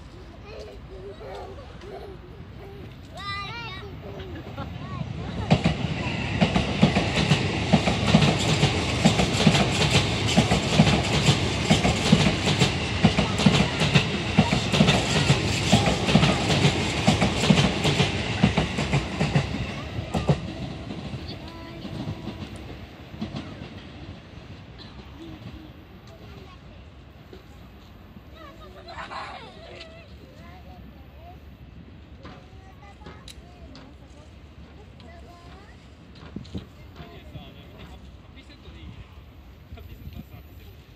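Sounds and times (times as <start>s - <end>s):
electric train rumbling past: 0.0s - 40.9s.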